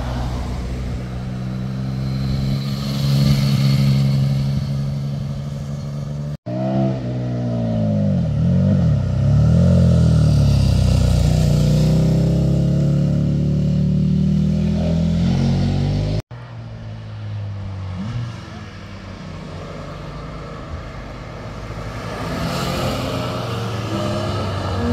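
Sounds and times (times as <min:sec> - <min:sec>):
car engine: 0:00.0 - 0:24.9.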